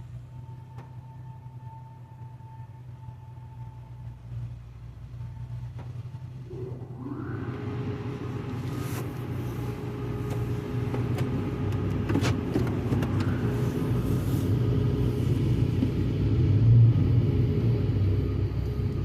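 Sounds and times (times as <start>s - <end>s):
car wash machinery rumbling: 0.0s - 19.0s.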